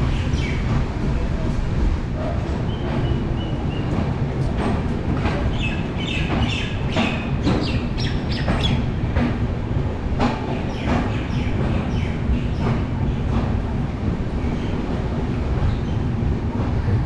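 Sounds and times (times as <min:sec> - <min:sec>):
rail joint clicks: 0:00.0 - 0:17.0
train wheels rumbling on track: 0:00.0 - 0:17.0.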